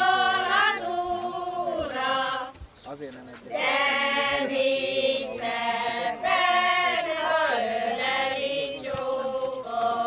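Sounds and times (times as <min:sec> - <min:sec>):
women singing folk song in unison: 0:00.0 - 0:02.6, 0:03.5 - 0:10.0.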